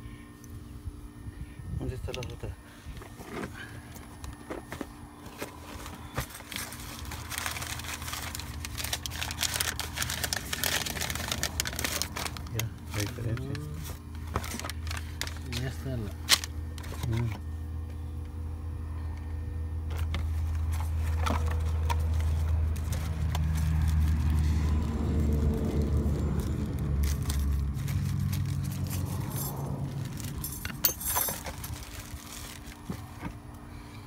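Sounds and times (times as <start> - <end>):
cardboard and paper rustling: 3.0 - 17.5, 19.9 - 33.5
vehicle rumble: 3.0 - 34.0.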